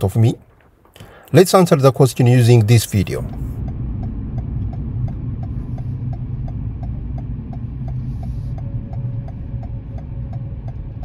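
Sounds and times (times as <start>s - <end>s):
car engine and road rumble: 0.0s - 11.0s
turn signal ticking: 0.4s - 11.0s.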